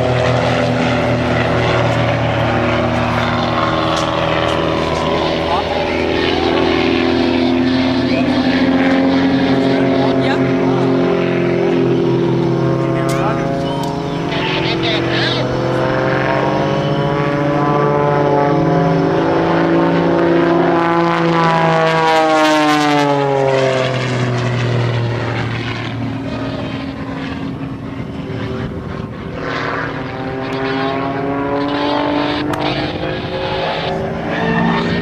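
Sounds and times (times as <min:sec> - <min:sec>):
propeller airplane engine droning: 0:00.0 - 0:35.0.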